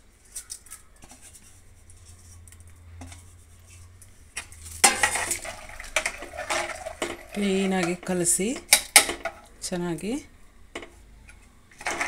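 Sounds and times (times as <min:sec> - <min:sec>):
spoon stirring rice clattering: 0:00.3 - 0:09.5, 0:10.8 - 0:12.0.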